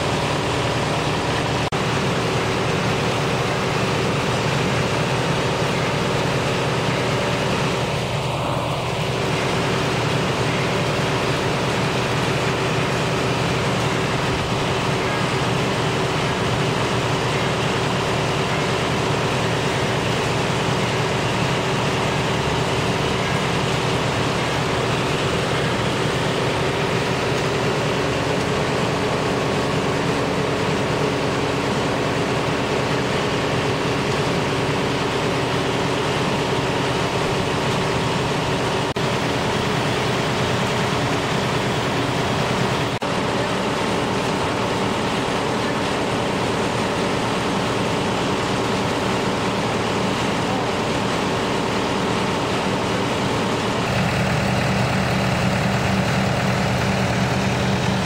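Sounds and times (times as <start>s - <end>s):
engine running steadily: 0.0s - 58.0s
tractor engine idling: 0.0s - 58.0s.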